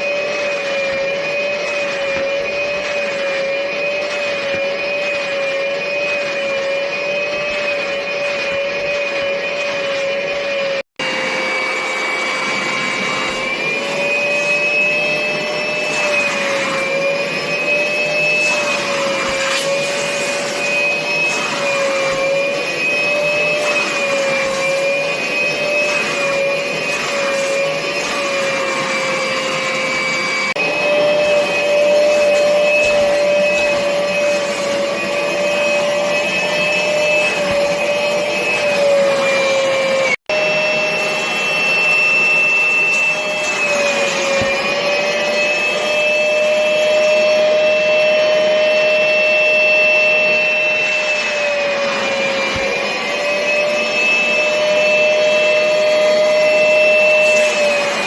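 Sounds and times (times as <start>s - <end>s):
vacuum motor whine: 0.0s - 58.0s.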